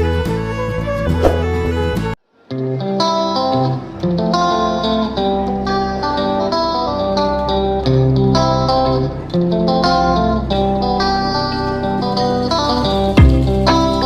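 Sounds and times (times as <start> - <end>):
guitar playing held notes: 0.0 - 14.0.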